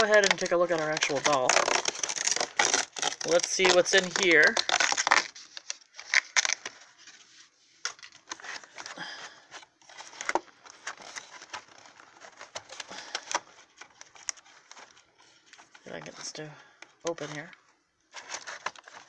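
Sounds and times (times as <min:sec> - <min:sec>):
cardboard packaging crinkling: 0:00.0 - 0:19.0.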